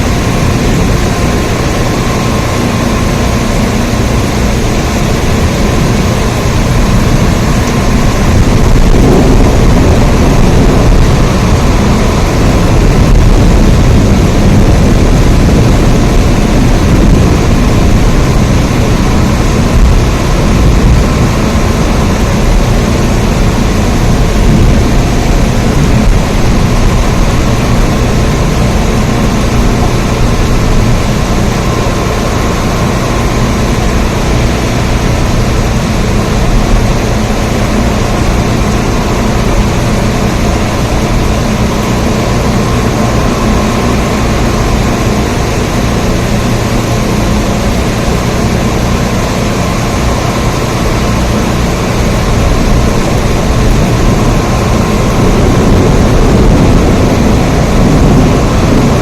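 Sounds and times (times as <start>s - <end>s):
heavy rain: 0.0s - 59.0s
low rumble: 0.0s - 59.0s.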